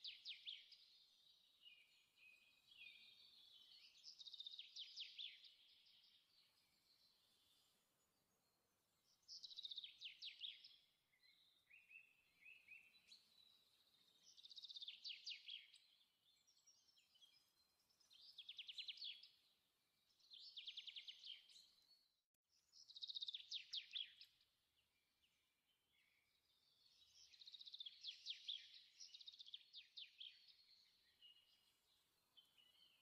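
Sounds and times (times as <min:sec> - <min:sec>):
faint songbird singing: 0:00.0 - 0:33.0.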